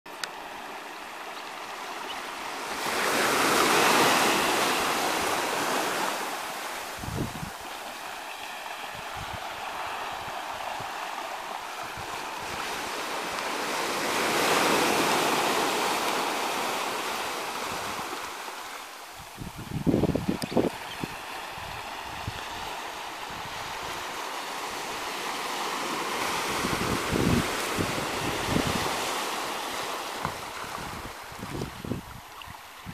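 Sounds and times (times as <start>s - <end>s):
small waves washing on a beach: 0.1s - 32.9s.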